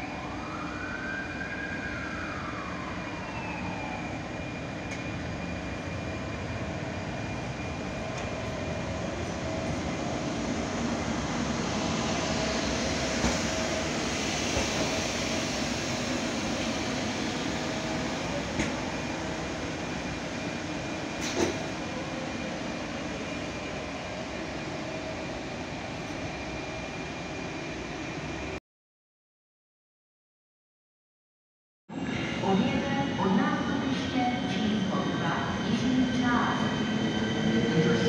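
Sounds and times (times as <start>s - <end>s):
electric locomotive humming and rolling: 0.0s - 28.6s, 32.0s - 38.0s.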